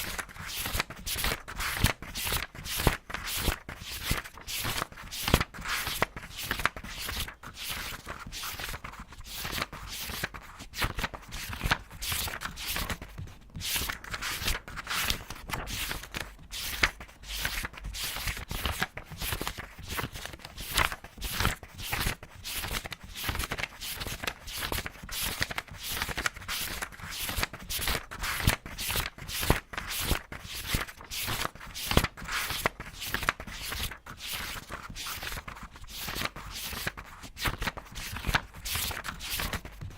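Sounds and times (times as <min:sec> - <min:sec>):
paper pages turning: 0:00.0 - 0:39.9.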